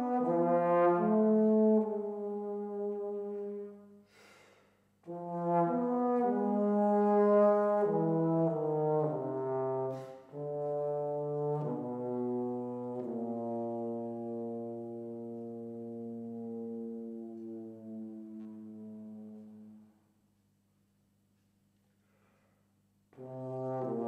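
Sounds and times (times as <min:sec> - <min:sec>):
solo trombone melody: 0:00.0 - 0:04.0, 0:05.0 - 0:20.2, 0:23.1 - 0:24.0.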